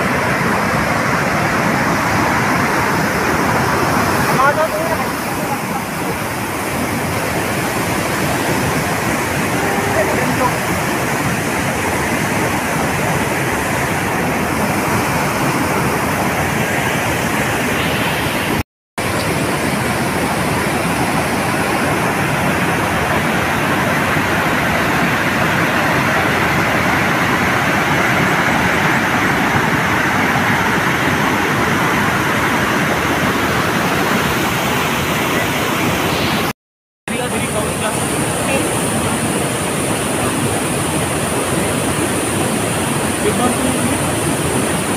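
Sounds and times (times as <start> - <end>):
waterfall roaring: 0.0 - 36.5, 37.1 - 44.9.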